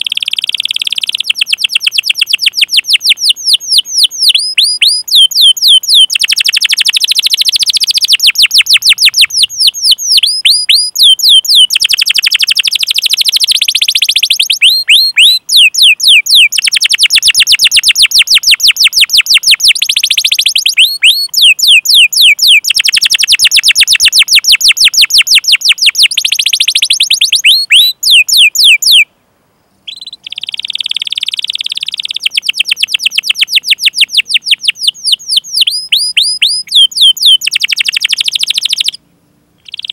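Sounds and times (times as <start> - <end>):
canary singing chirps and trills: 0.0 - 29.1, 29.9 - 39.0, 39.6 - 39.9.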